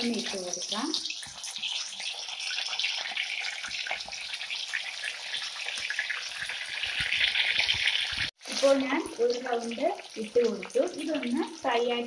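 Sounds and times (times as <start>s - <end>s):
small crackles and pops: 0.0s - 11.6s
chicken deep-frying in oil: 0.0s - 12.0s.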